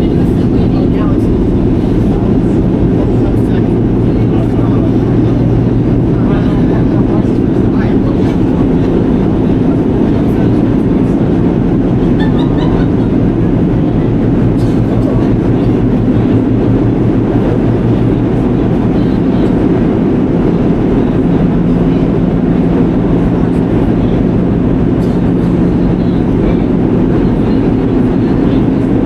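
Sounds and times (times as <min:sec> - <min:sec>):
subway train rumbling on track: 0:00.0 - 0:29.0.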